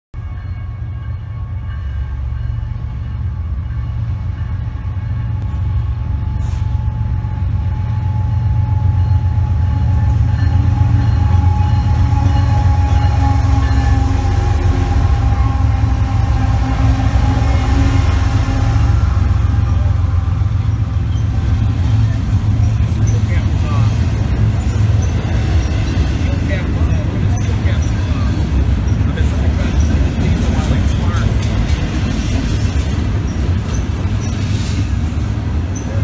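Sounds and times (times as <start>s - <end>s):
diesel locomotive rumble: 0.2s - 36.0s.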